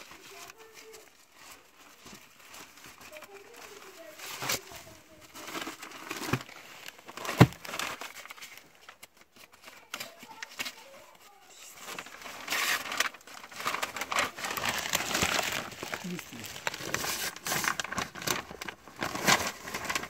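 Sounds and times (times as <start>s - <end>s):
paper rustling and crinkling: 0.0s - 20.0s.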